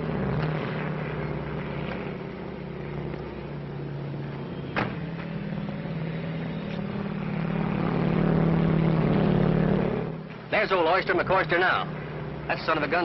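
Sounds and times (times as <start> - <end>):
propeller airplane engine droning: 0.0 - 13.0.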